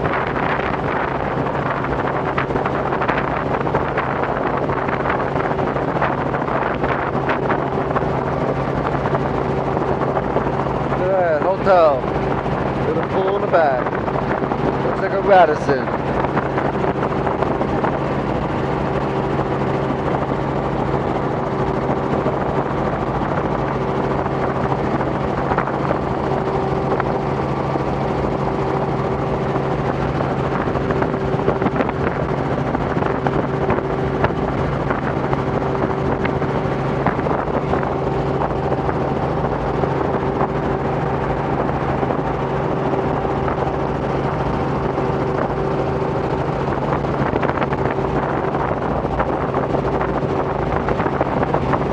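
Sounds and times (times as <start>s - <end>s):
helicopter engine and rotors droning: 0.0s - 51.9s.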